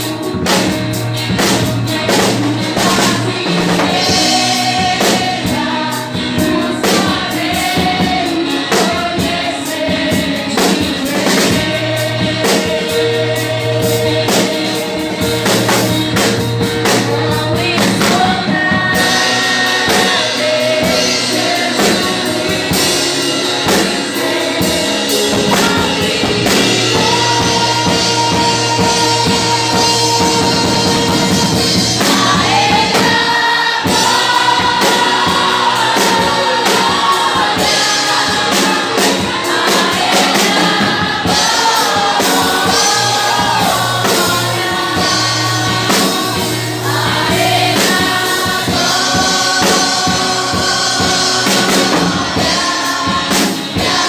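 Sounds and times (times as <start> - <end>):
band with drum kit: 0.0 - 54.0
choir singing: 1.4 - 54.0.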